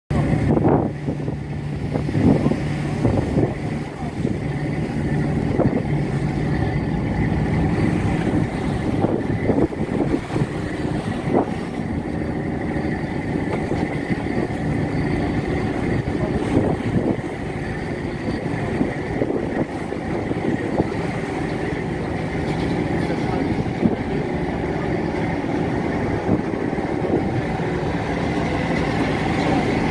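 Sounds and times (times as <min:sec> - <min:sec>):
boat engine humming: 0:00.1 - 0:29.9
water wash noise: 0:00.1 - 0:29.9.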